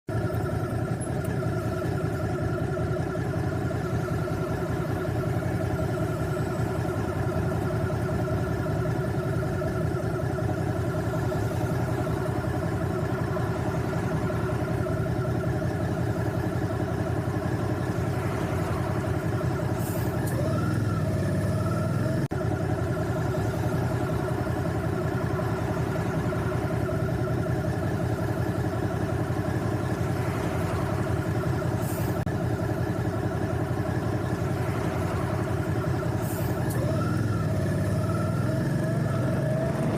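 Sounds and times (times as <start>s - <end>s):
motorcycle engine idling: 0.1s - 39.9s.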